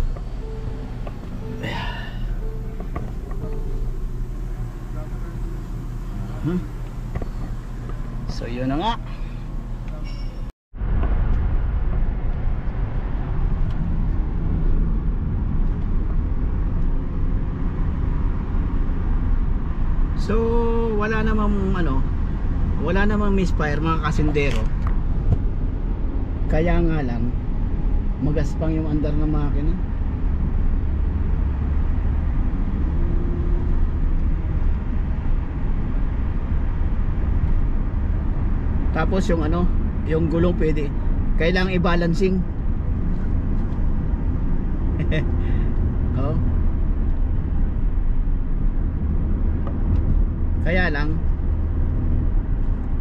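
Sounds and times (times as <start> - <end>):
car engine low rumble: 0.0 - 53.0
road noise: 0.0 - 53.0.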